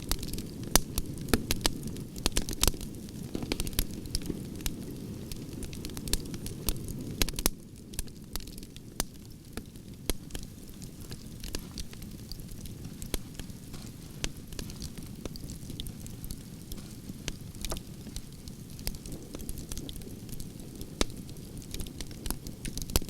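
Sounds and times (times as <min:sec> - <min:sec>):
campfire crackling and popping: 0:00.0 - 0:23.0
low rush of flame: 0:00.0 - 0:23.0.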